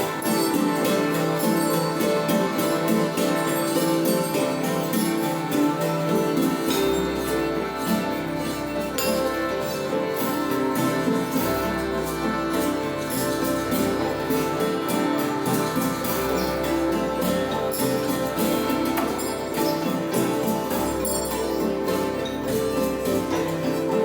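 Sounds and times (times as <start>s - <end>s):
light percussion strokes: 0.0s - 24.0s
sustained drone tones: 0.0s - 24.0s.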